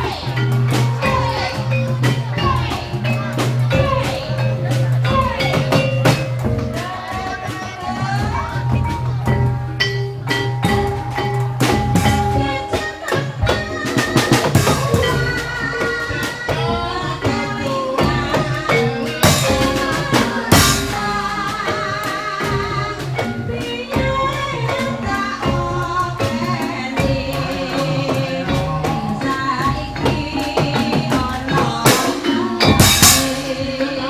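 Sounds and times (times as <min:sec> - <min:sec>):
percussion ensemble playing: 0:00.0 - 0:34.0
wavering singing voice: 0:00.0 - 0:34.0.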